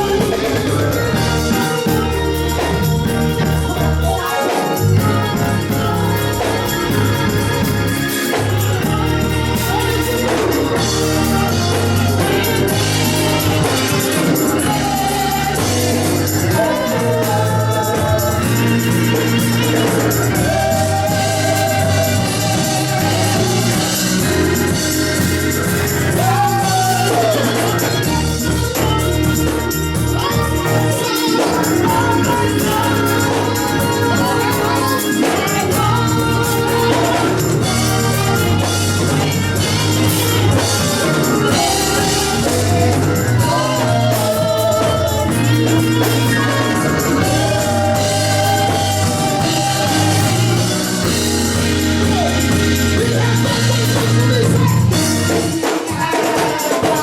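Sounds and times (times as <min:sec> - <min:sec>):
gospel voices singing: 0:00.0 - 0:57.0
instrumental backing with bass: 0:00.0 - 0:57.0.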